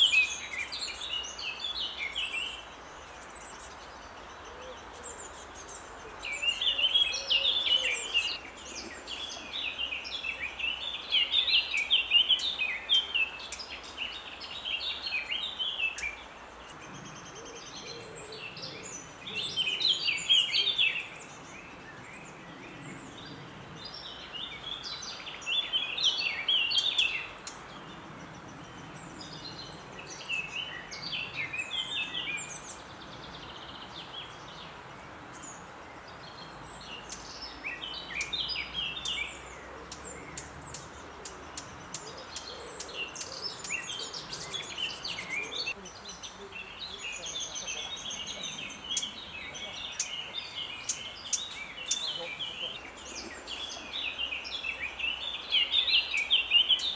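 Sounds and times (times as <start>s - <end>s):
birds chirping and singing: 0.0s - 56.9s
steady background hiss: 0.0s - 56.9s.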